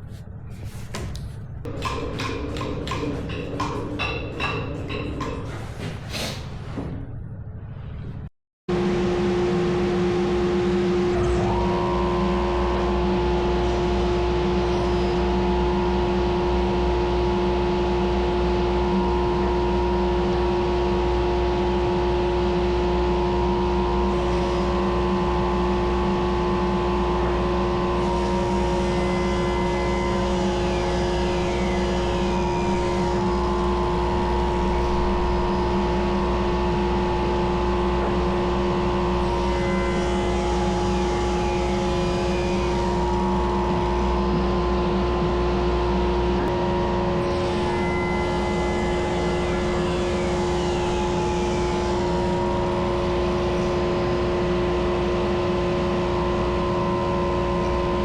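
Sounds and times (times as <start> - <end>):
wood lathe motor hum: 9.1 - 58.0.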